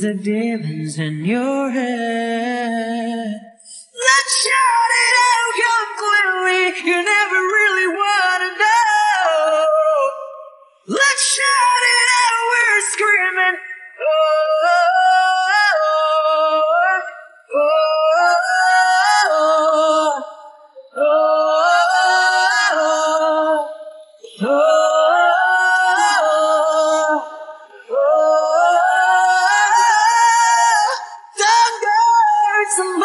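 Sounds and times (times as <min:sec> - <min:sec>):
man singing: 0:00.0 - 0:10.2, 0:10.9 - 0:33.0
lower voice singing along: 0:00.0 - 0:33.0.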